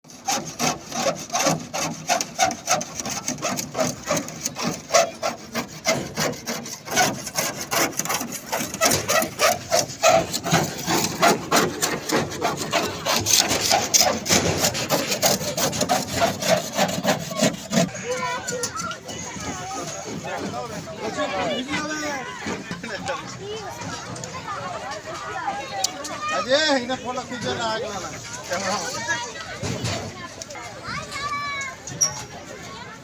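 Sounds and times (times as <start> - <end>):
rhythmic rubbing on boat hull: 0.0 - 30.1.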